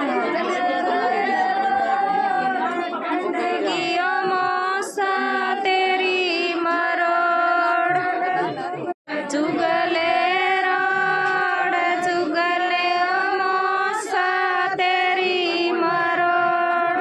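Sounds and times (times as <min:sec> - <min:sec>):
women singing held notes: 0:00.0 - 0:17.0.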